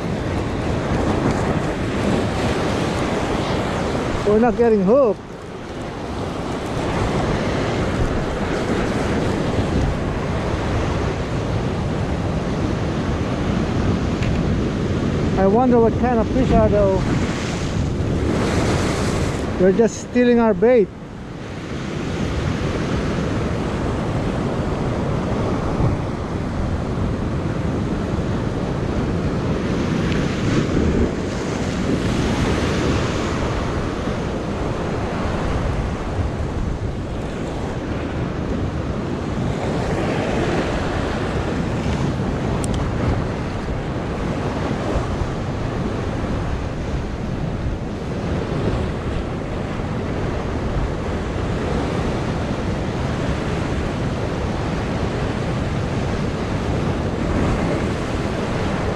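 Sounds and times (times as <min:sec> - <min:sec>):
ocean surf breaking on rocks: 0:00.0 - 0:58.9
wind buffeting microphone: 0:00.0 - 0:58.9.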